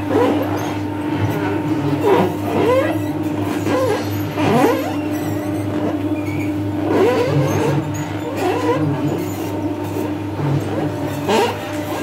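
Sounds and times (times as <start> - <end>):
oil mill machine hum: 0.0 - 12.0
short squeaky glides: 2.0 - 12.0.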